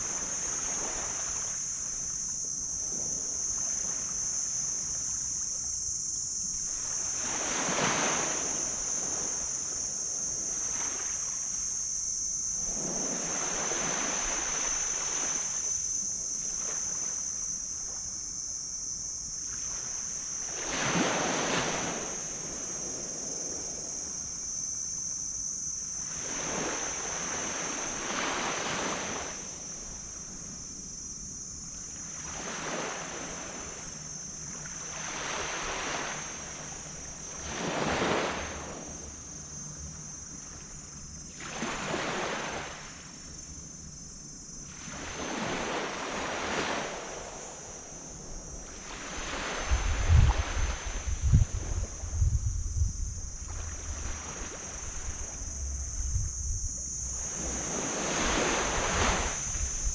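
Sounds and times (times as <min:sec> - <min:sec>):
small waves breaking on beach: 0:00.0 - 0:05.4, 0:06.6 - 0:11.8, 0:12.4 - 0:18.0, 0:19.4 - 0:24.9, 0:25.5 - 0:31.1, 0:31.7 - 0:39.1, 0:40.3 - 0:43.5, 0:44.4 - 0:52.1, 0:53.2 - 0:55.6, 0:56.9 - 0:59.9
steady high-pitched hiss: 0:00.0 - 0:59.9.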